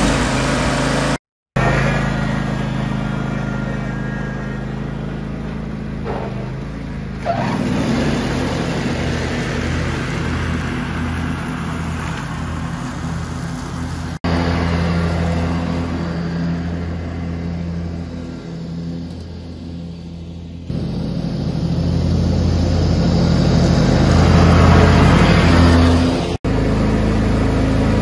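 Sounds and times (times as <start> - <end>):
riding lawn mower engine running: 0.0 - 28.0.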